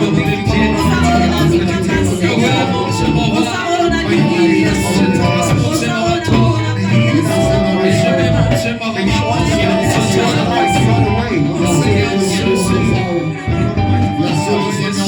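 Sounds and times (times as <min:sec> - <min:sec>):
people singing: 0:00.0 - 0:15.0
worship band playing: 0:00.0 - 0:15.0.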